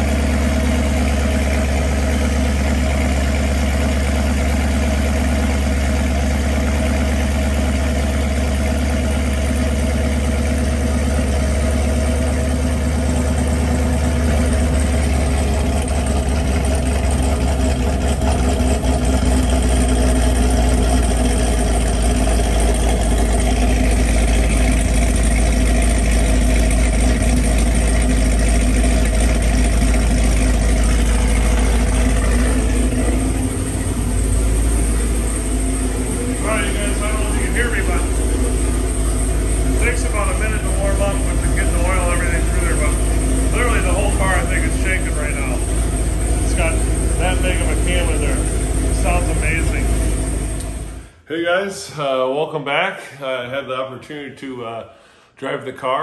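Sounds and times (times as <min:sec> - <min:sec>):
car engine idling: 0:00.0 - 0:51.3.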